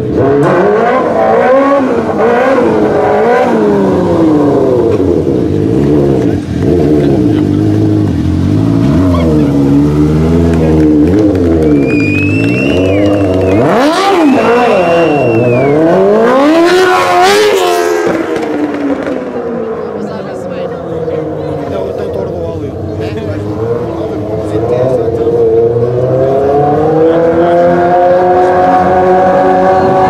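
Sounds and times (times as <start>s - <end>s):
quad engine revving: 0.0s - 30.0s.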